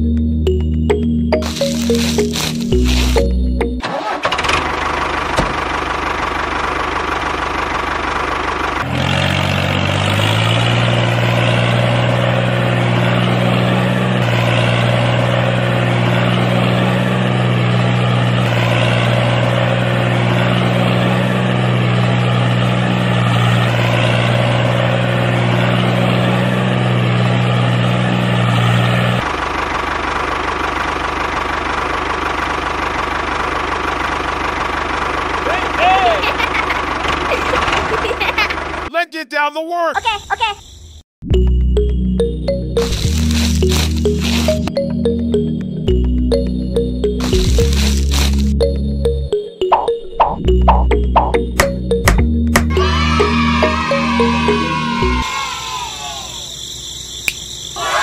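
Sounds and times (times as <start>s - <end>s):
tractor engine running: 0.0s - 39.0s, 41.3s - 53.9s.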